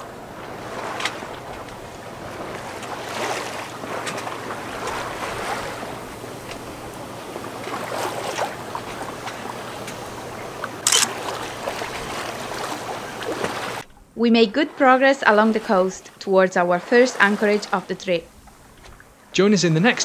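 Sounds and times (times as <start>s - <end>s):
water rushing along hull: 0.0s - 20.0s
wind: 0.0s - 20.0s.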